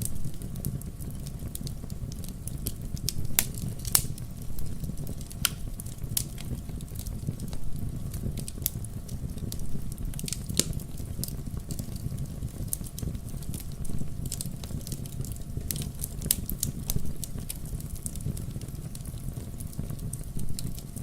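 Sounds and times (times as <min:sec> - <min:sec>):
wood logs burning in fireplace: 0:00.0 - 0:21.0.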